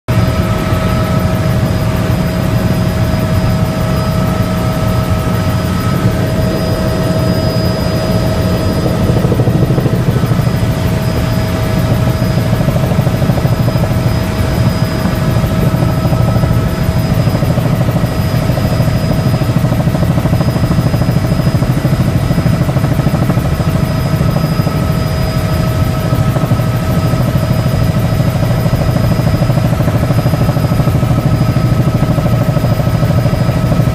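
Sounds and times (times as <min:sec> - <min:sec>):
helicopter rotor and engine drone: 0:00.1 - 0:33.9
thin whining tones: 0:00.2 - 0:33.9.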